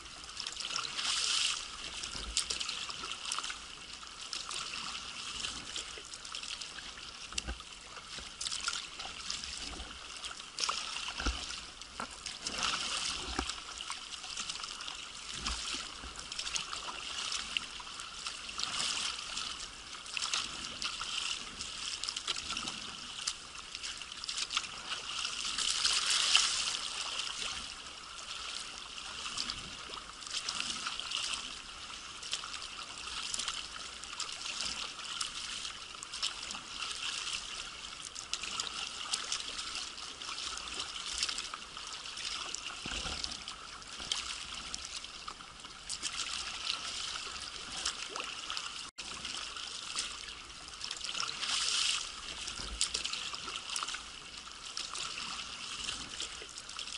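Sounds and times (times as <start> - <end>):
paddle blades splashing: 0.0 - 56.9
small waves breaking: 0.0 - 56.9
water washing along hull: 0.0 - 56.9.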